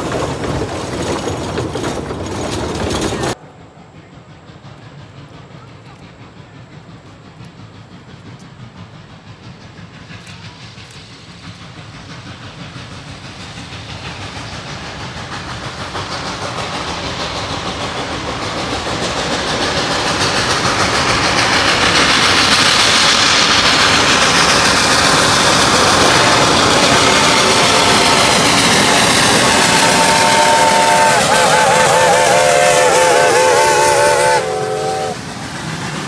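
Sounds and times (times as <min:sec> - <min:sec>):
steam hiss: 0:00.0 - 0:36.0
steam locomotive exhaust: 0:00.0 - 0:36.0.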